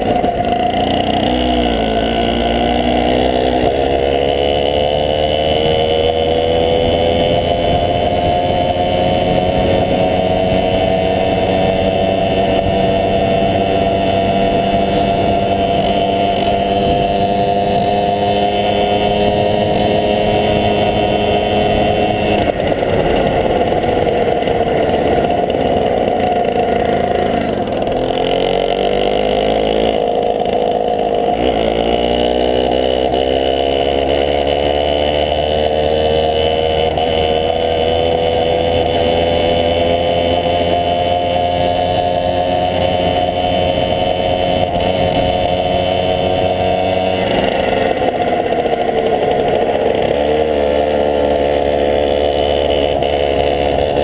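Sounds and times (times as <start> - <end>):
moped engine running: 0.0 - 54.0.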